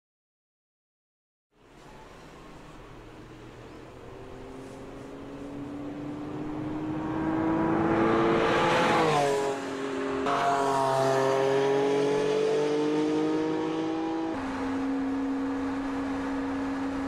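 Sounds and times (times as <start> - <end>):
car engine accelerating: 2.8 - 17.0.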